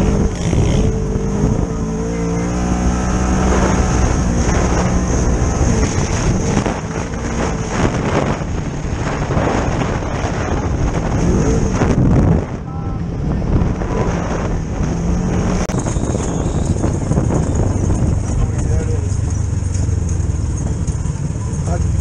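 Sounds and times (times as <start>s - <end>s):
off-road vehicle engine revving: 0.0s - 22.0s
wind buffeting microphone: 0.0s - 22.0s.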